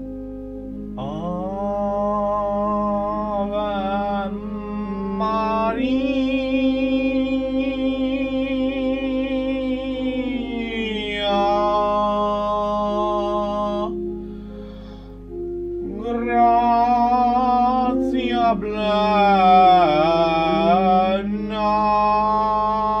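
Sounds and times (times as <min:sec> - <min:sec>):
chant in long held notes: 0:00.0 - 0:23.0
steady low drone: 0:00.0 - 0:23.0.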